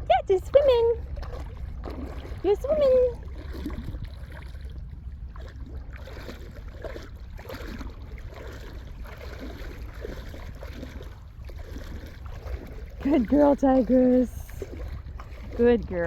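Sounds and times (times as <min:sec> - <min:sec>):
steady low rumble: 0:00.0 - 0:16.0
water lapping and splashing: 0:00.0 - 0:16.0.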